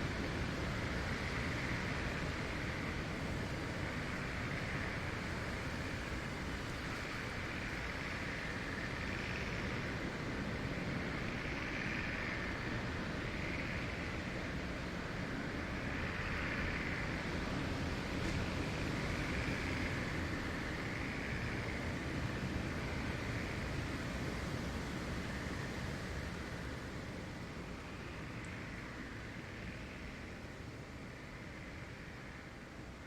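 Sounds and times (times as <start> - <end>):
wind blowing through trees: 0.0 - 33.0.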